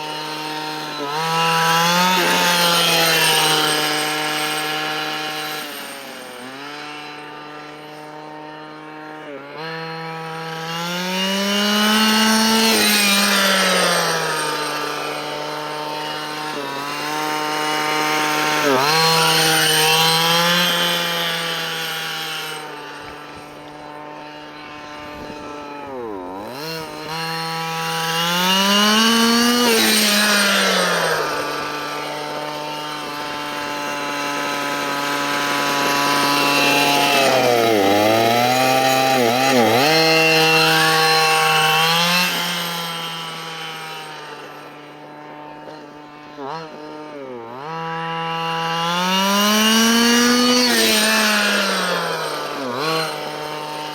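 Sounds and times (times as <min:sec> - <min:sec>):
two-stroke engine revving: 0:00.0 - 0:53.9.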